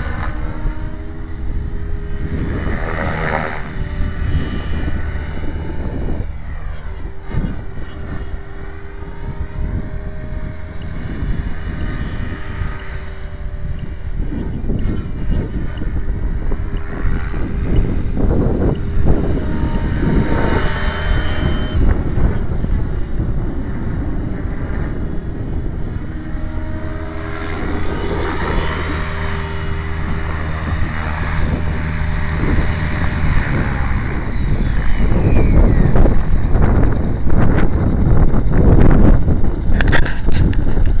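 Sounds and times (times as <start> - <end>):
rc helicopter motor whine: 0.0 - 41.0
wind buffeting microphone: 0.0 - 41.0.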